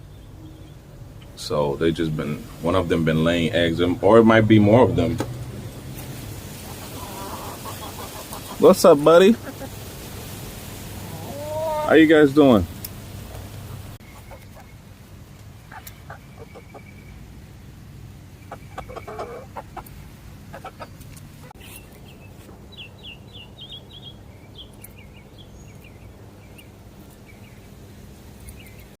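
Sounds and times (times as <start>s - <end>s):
chickens clucking: 1.2s - 17.4s, 18.2s - 27.7s.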